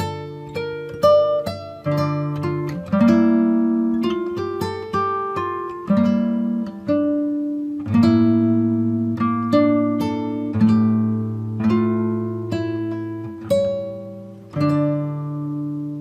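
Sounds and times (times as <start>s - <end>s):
acoustic guitar slow chords: 0.0s - 16.0s.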